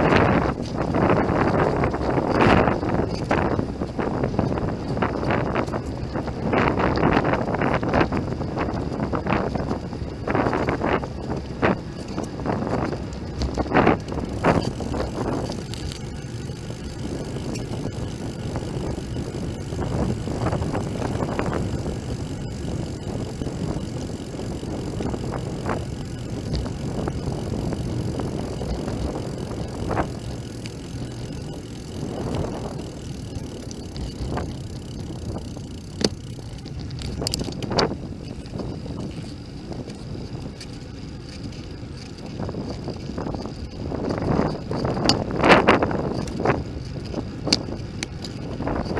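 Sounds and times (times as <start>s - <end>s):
bicycle knocks and rattles: 0.0s - 48.9s
tyres rumbling on road: 0.0s - 48.9s
wind across microphone: 0.0s - 48.9s.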